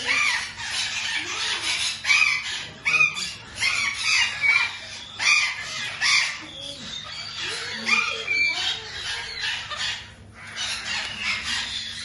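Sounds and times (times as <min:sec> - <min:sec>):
birds squawking harshly: 0:00.0 - 0:12.0.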